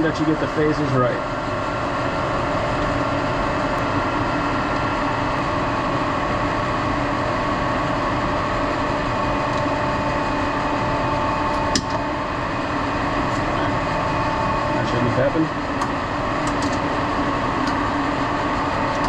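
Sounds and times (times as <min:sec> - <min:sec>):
industrial machinery hum: 0:00.0 - 0:19.0.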